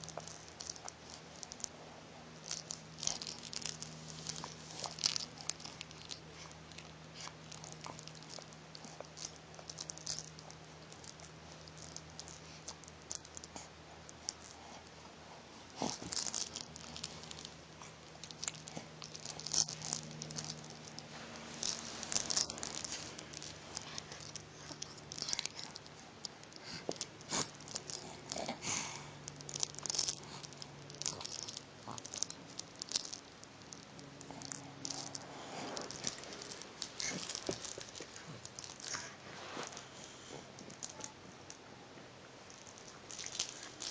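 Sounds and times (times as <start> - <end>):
toy being chewed: 0.0 - 15.1, 15.7 - 41.6, 42.5 - 43.9
faint low hum: 0.0 - 43.9.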